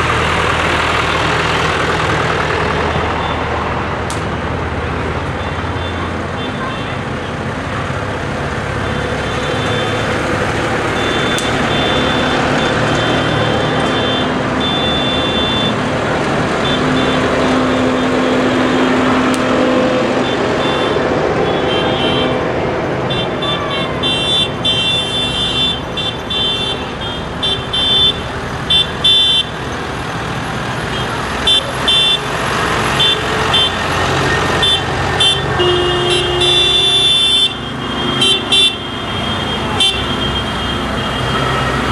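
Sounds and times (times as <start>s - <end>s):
tractor diesel engines running: 0.0s - 41.9s
horns tooting: 4.8s - 41.9s.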